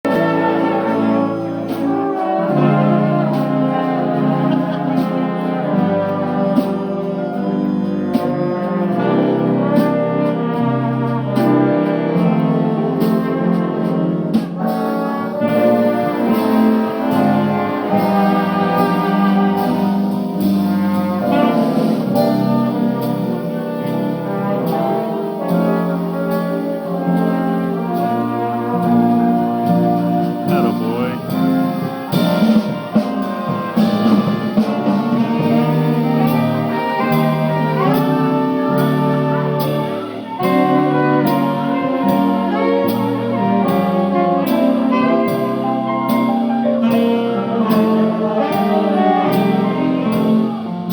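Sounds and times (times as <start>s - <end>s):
big band music: 0.0s - 50.9s.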